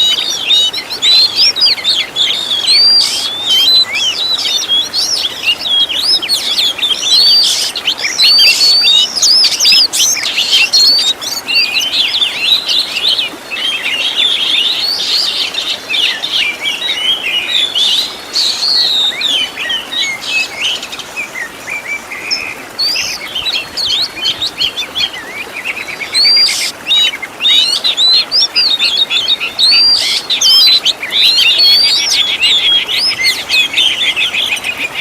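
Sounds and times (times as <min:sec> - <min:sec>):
magpie-robin singing: 0:00.0 - 0:20.8, 0:22.2 - 0:35.0.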